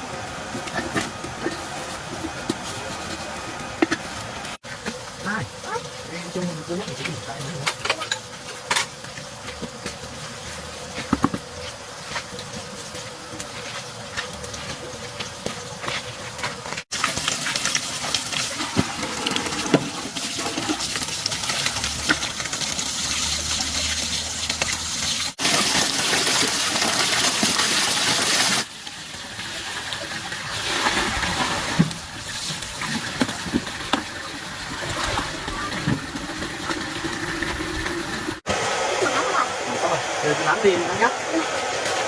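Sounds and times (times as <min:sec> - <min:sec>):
water gushing: 0:00.0 - 0:42.0
water splashing and running: 0:00.0 - 0:42.0.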